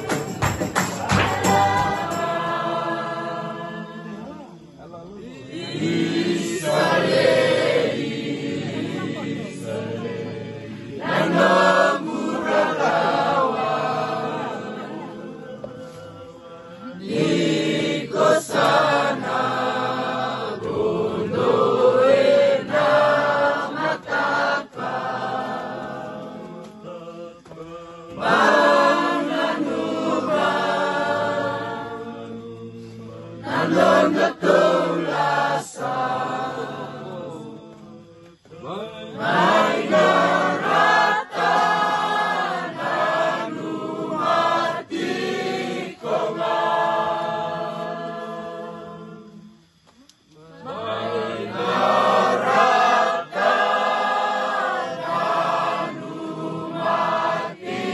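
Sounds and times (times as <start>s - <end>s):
group of people singing: 0.0s - 57.9s.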